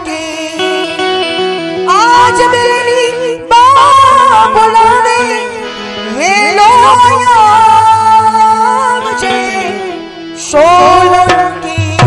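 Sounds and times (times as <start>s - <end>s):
harmonium drone: 0.0s - 12.0s.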